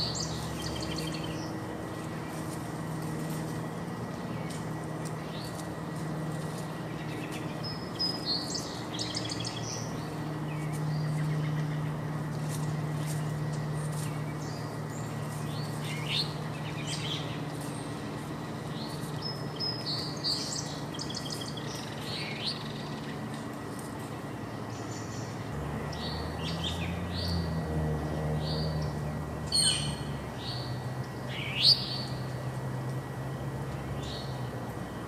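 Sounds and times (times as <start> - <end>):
low steady hum: 0.0 - 35.0
songbirds chirping: 0.0 - 35.0.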